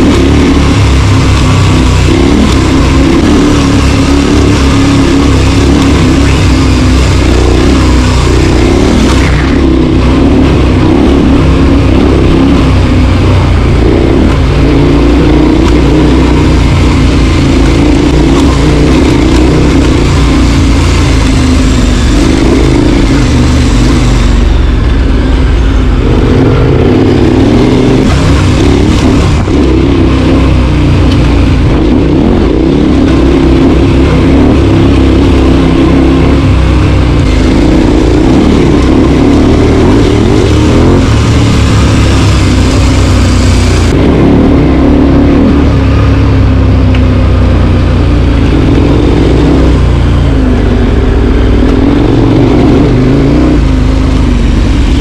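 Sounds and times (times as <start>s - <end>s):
road noise: 0.0s - 55.0s
vehicle engine revving: 0.0s - 55.0s.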